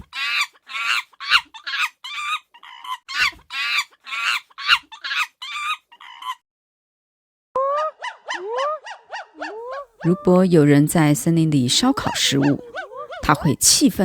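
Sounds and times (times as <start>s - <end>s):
monkey howling: 0.0s - 6.4s, 7.6s - 13.8s.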